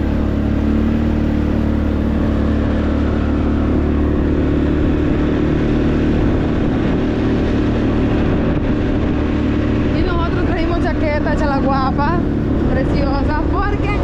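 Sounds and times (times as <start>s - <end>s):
motorcycle engine running: 0.0s - 14.0s
road noise: 0.0s - 14.0s
wind rushing over microphone: 0.0s - 14.0s.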